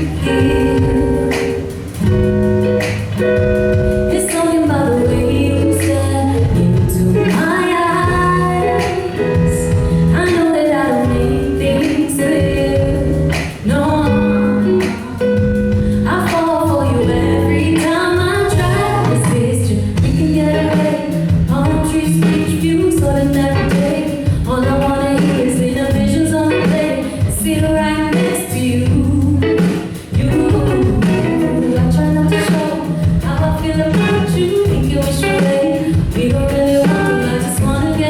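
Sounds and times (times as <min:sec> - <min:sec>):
instrumental backing music: 0:00.0 - 0:38.0
woman singing: 0:00.0 - 0:38.0.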